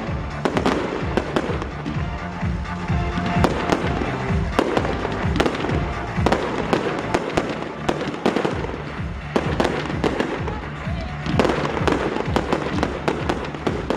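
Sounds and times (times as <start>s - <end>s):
fireworks bangs: 0.0s - 13.9s
music playing: 0.0s - 13.9s.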